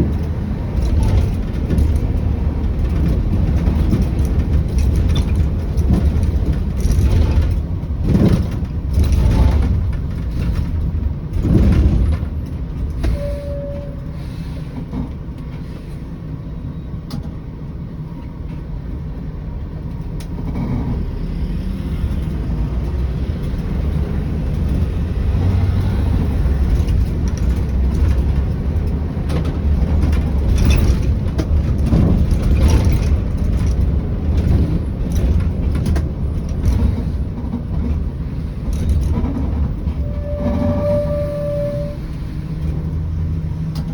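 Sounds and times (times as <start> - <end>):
knocks and rattles over bumps: 0.0 - 13.3, 18.2 - 41.2, 42.5 - 43.9
bus diesel engine droning: 0.0 - 43.9.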